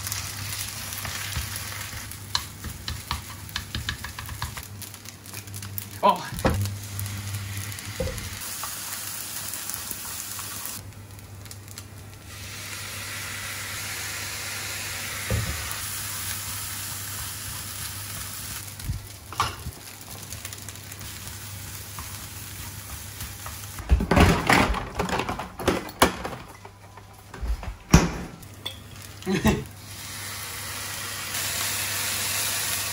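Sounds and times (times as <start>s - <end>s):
rice sizzling in a frying pan: 0.0s - 23.8s, 28.4s - 32.9s.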